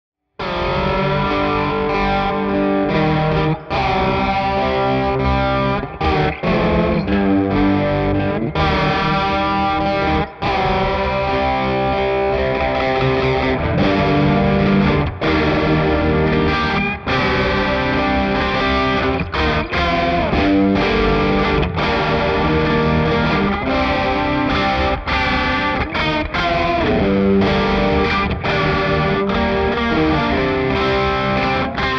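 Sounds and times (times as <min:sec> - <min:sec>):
electric guitar with vibrato: 0:00.4 - 0:31.9.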